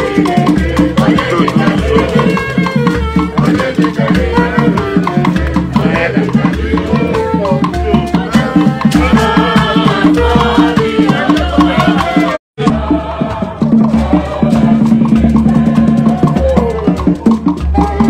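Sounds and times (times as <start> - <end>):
percussion band music with rattles: 0.0 - 18.0.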